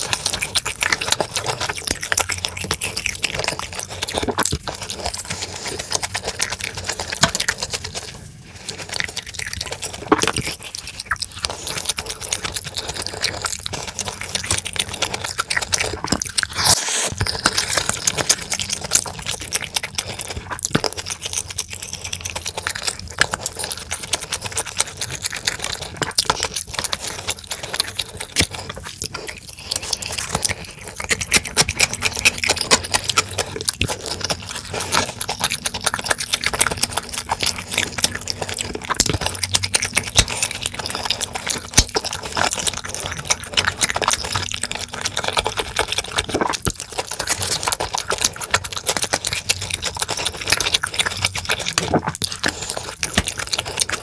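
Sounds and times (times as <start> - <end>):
chewing and wet mouth sounds: 0.0 - 54.0.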